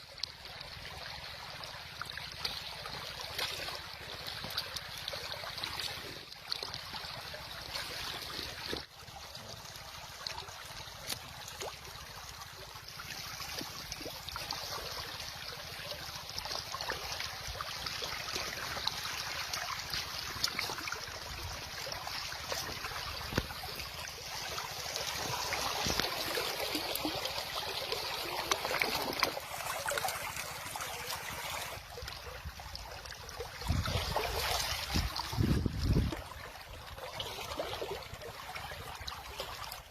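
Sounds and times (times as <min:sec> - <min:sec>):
river water flowing: 0:00.0 - 0:39.9
small splashes and trickles: 0:00.0 - 0:39.9.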